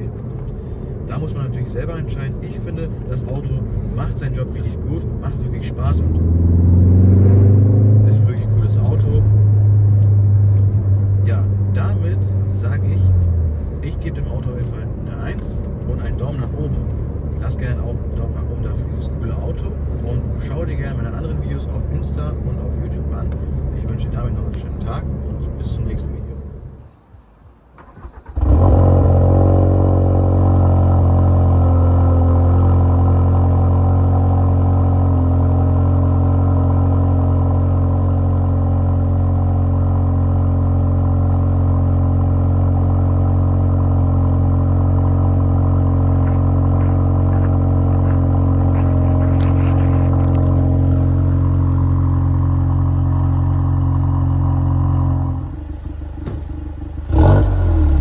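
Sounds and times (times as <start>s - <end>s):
car engine idling: 0.0s - 26.8s, 27.8s - 58.0s.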